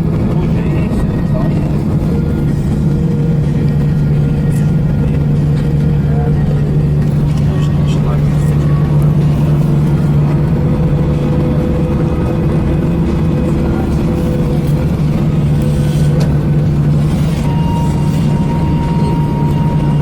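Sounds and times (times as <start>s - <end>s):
low cabin hum: 0.0s - 20.0s
thin steady whine: 0.0s - 20.0s.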